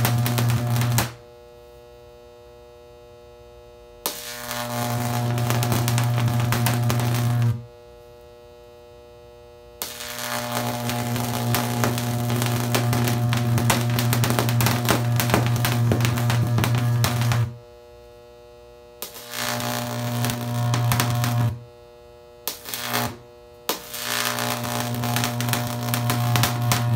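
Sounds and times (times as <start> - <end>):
electric arc buzzing: 0.0 - 26.9.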